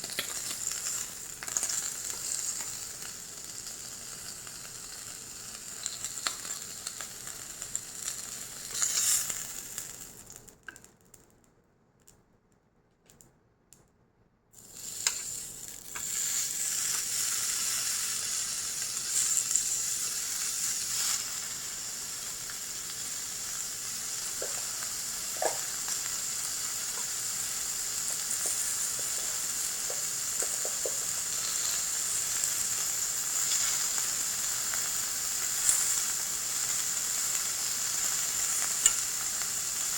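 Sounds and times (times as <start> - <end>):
meat sizzling on hot iron plate: 0.0 - 10.4, 14.6 - 39.9.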